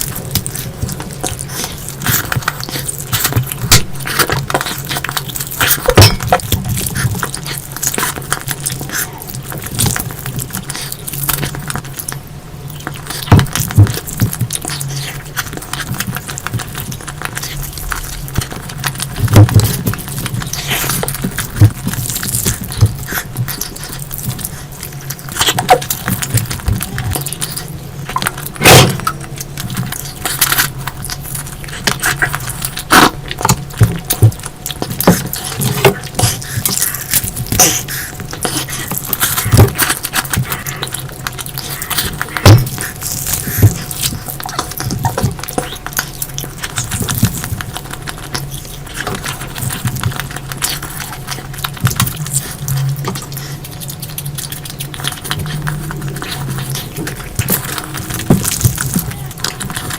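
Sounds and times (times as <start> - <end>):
person chewing wetly: 0.0 - 59.9
steady low hum: 0.0 - 59.9.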